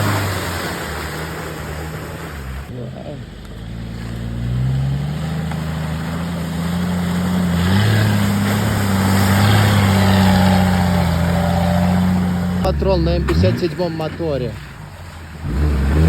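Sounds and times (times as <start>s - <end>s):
off-road vehicle engine under load: 0.0s - 16.0s.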